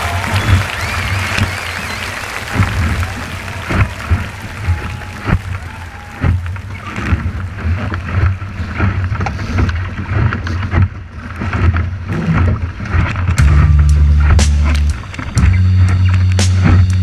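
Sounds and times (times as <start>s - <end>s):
water rushing along hull: 0.0s - 17.0s.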